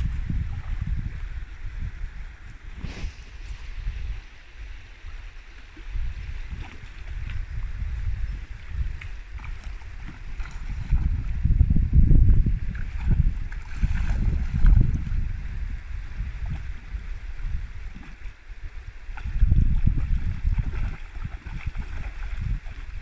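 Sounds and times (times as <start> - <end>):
water sloshing around a boat: 2.6 - 11.5, 12.6 - 23.0.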